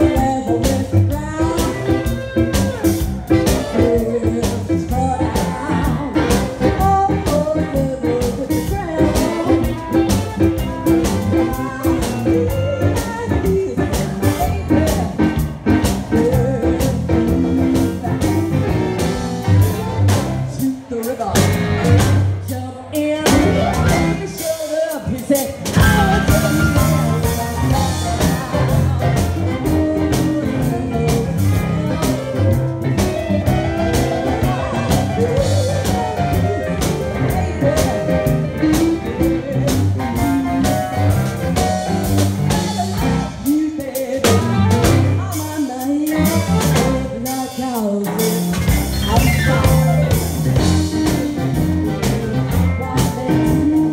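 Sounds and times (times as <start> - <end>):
drums: 0.0 - 53.9
guitar: 0.0 - 53.9
woman singing blues: 0.0 - 53.9.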